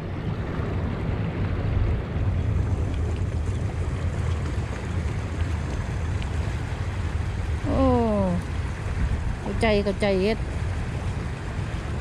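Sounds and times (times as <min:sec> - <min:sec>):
wind buffeting microphone: 0:00.0 - 0:12.0
river water rushing: 0:01.8 - 0:12.0.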